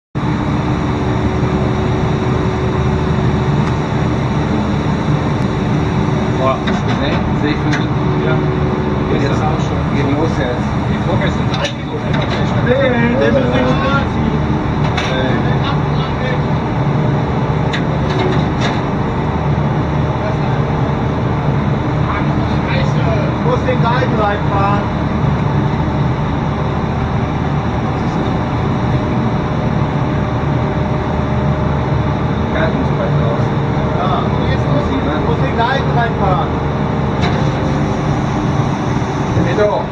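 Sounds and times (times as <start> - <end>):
deck machinery hum: 0.2 - 39.9
ship engines droning: 0.2 - 39.9.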